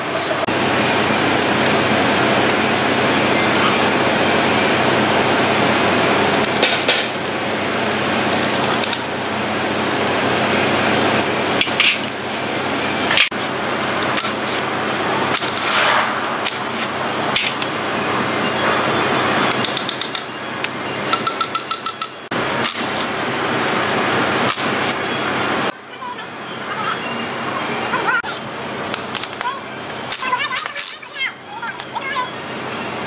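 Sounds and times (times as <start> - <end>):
steady background noise: 0.0 - 33.0.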